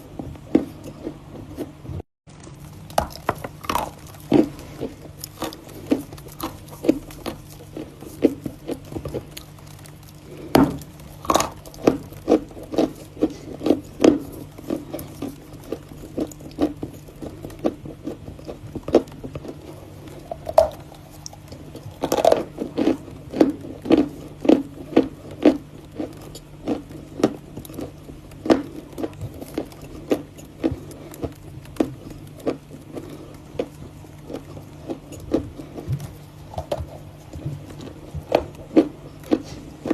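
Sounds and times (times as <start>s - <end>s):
chewing and crunching chalk: 0.0s - 39.9s.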